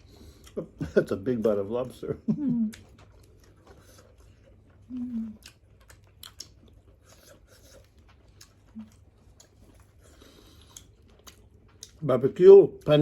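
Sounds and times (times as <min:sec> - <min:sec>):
close-up chewing: 0:00.0 - 0:13.0.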